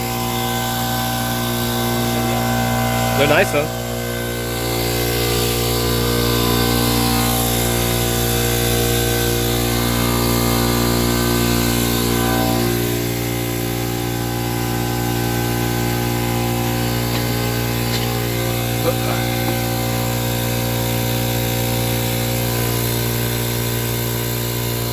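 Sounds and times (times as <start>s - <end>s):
motor humming: 0.0s - 24.9s.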